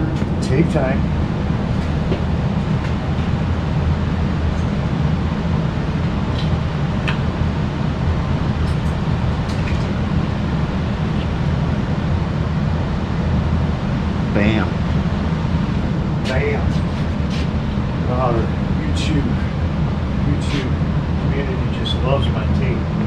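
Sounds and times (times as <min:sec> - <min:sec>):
low rumble of running machine: 0:00.0 - 0:23.0.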